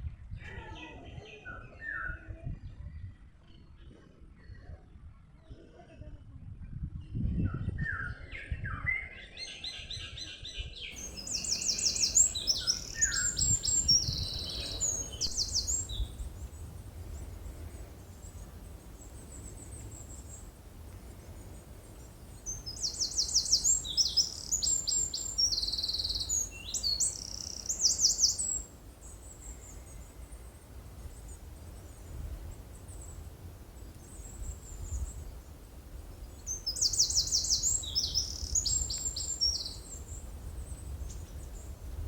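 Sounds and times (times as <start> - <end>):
songbirds chirping and trilling: 7.6 - 42.0.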